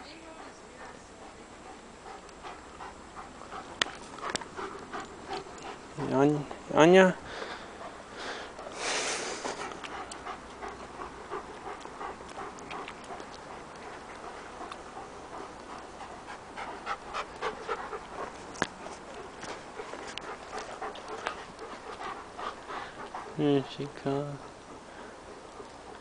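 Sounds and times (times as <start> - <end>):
dog panting: 0.0 - 26.0.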